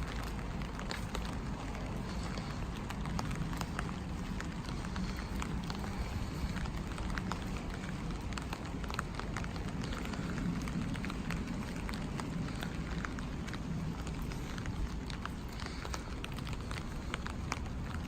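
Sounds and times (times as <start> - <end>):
rain falling: 0.0 - 18.0
raindrops ticking: 0.0 - 18.0.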